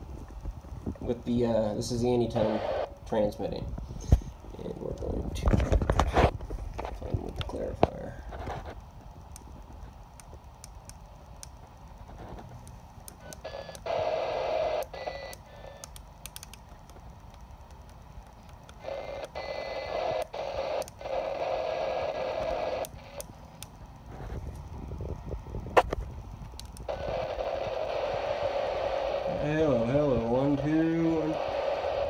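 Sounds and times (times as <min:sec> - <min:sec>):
bursts of rushing static: 0:00.0 - 0:10.5, 0:13.2 - 0:15.8, 0:18.0 - 0:32.0
radio hiss: 0:00.0 - 0:15.9, 0:18.0 - 0:26.2, 0:26.8 - 0:32.0.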